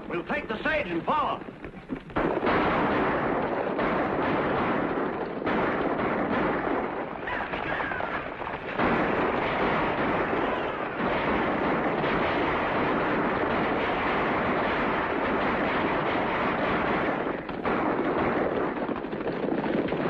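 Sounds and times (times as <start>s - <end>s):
horses galloping: 0.0s - 20.0s.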